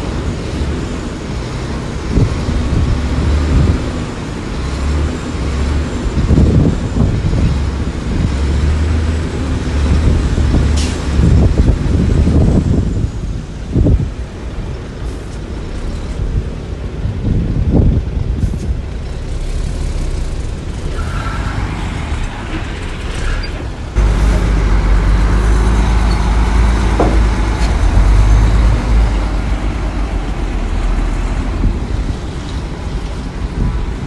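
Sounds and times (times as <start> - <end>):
heavy diesel machinery droning: 0.0 - 34.0.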